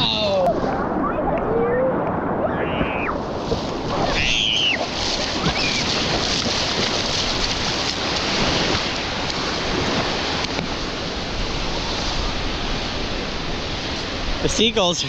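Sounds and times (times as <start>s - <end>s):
ocean surf washing on shore: 0.0s - 15.0s.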